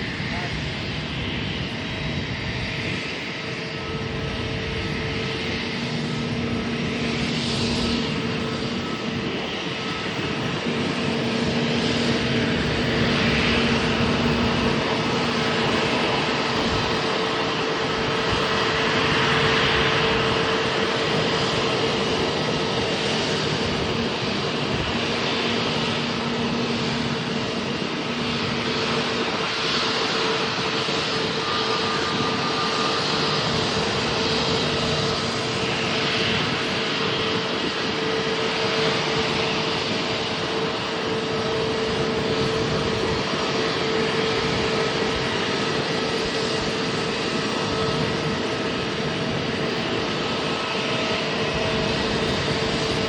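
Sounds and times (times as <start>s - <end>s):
airliner engines rushing: 0.0s - 53.0s
constant engine hum: 0.0s - 53.0s.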